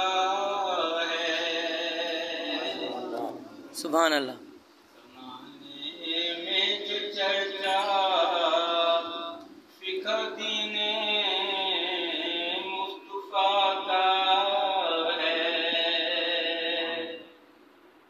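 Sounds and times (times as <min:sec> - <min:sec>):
man chanting a prayer: 0:00.0 - 0:17.4.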